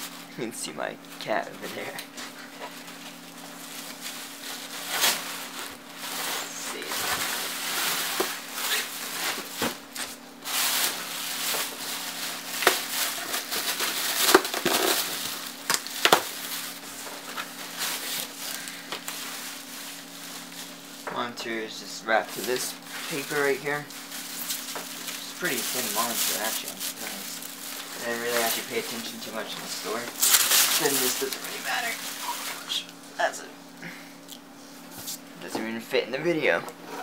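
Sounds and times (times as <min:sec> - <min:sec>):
plastic and foam crinkling: 0:01.1 - 0:21.1, 0:22.0 - 0:32.9.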